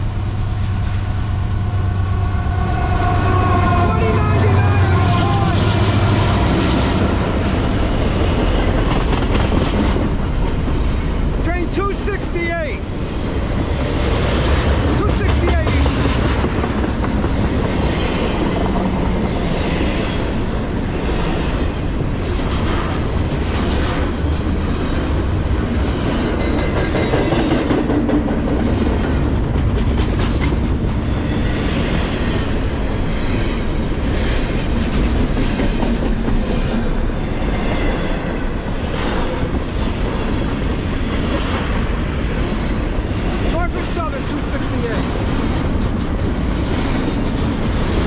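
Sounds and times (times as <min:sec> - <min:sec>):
freight cars rolling on track: 0:00.0 - 0:48.0
train wheels clicking over rail joints: 0:04.8 - 0:12.0, 0:12.9 - 0:48.0.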